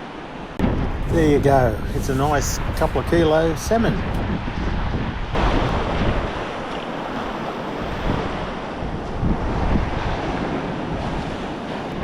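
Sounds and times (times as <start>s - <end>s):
surf breaking on a beach: 0.0s - 12.0s
wind gusting on microphone: 0.0s - 12.0s.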